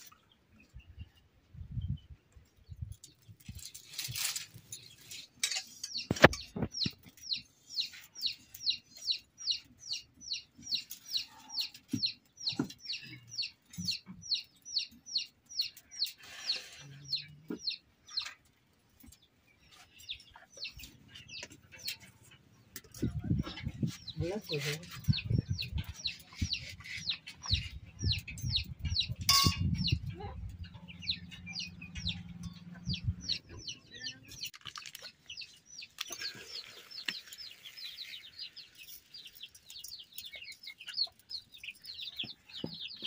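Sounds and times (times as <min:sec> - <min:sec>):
small bird chirping: 0:00.0 - 0:43.0.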